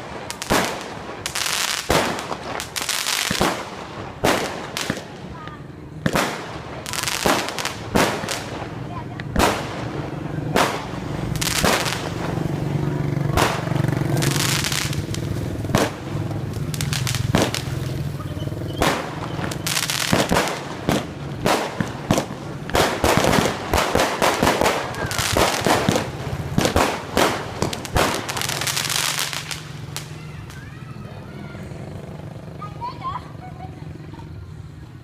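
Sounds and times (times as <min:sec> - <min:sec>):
fireworks bangs and crackles: 0:00.0 - 0:32.6.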